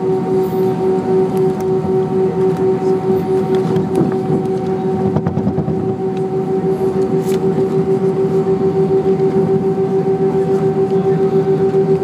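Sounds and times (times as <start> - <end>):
jet engines idling hum: 0.0 - 12.0
low rumble of aircraft rolling: 0.0 - 12.0.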